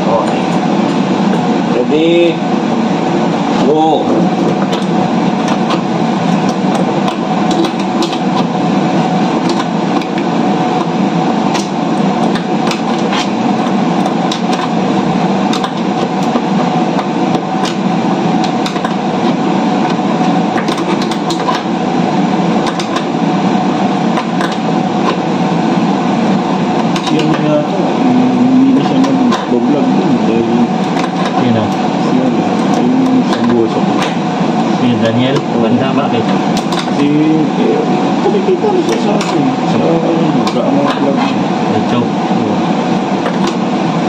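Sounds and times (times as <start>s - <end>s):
ventilation machinery drone: 0.0s - 44.0s.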